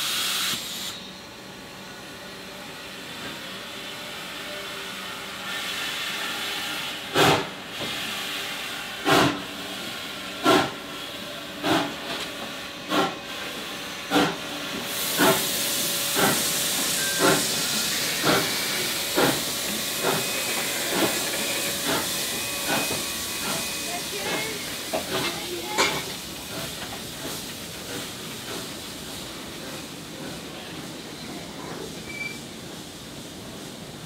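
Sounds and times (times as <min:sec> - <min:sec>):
steam hissing: 0:00.0 - 0:01.0, 0:04.1 - 0:34.0
steam locomotive exhaust chuffing: 0:05.5 - 0:34.0.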